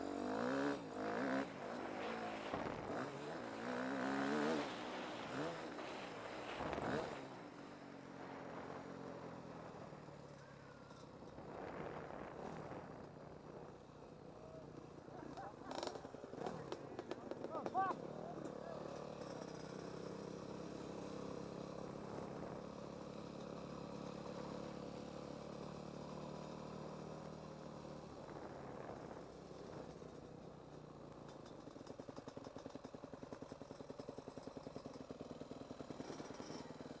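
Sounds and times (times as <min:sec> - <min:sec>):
motorbike engine running: 0:00.0 - 0:37.0.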